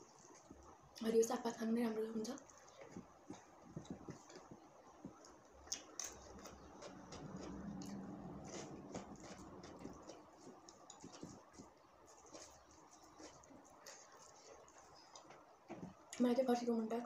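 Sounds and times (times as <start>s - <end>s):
faint low hum: 0.0s - 17.0s
mouth chewing: 2.1s - 16.2s
fingers mixing rice on plate: 2.4s - 16.2s.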